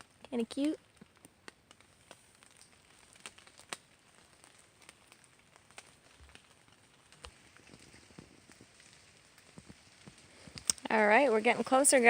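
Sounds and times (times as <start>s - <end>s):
light rain dripping: 0.0s - 12.0s.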